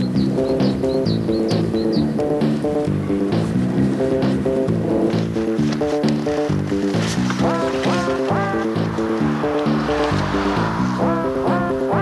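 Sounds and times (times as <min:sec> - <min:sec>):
music with quick notes and beat: 0:00.0 - 0:10.0.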